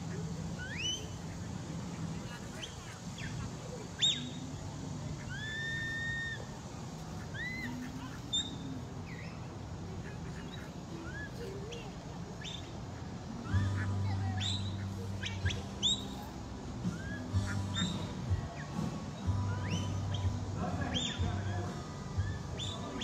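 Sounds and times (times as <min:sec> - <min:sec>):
murmur of outdoor crowd: 0:00.0 - 0:23.0
steady low hum: 0:00.0 - 0:23.0
high chirps and whistle calls: 0:00.5 - 0:09.6, 0:10.3 - 0:23.0.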